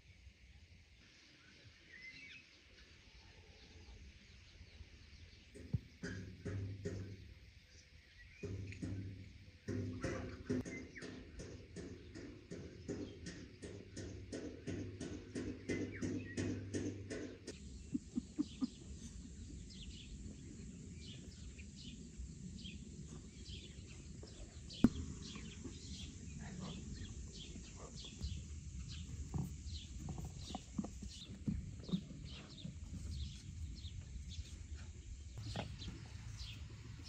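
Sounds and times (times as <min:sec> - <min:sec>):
outdoor ambience: 0:00.0 - 0:37.0
small birds chirping: 0:04.4 - 0:37.0.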